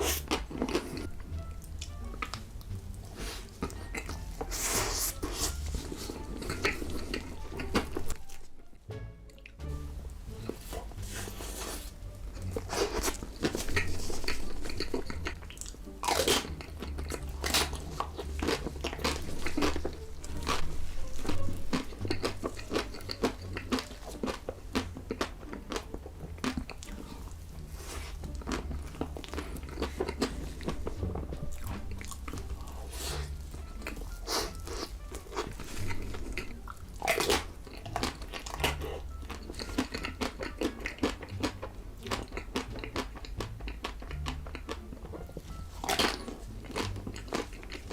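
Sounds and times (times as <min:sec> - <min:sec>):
crunchy food chewing: 0:00.0 - 0:08.6, 0:10.3 - 0:47.9.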